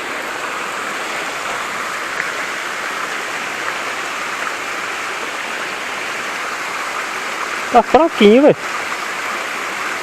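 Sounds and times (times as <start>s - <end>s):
waterfall and stream rushing: 0.0s - 10.0s.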